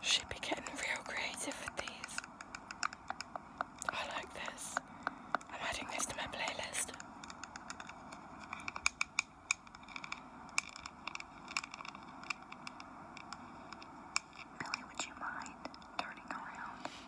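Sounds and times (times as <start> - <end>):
soft scratchy hiss: 0.0 - 17.0.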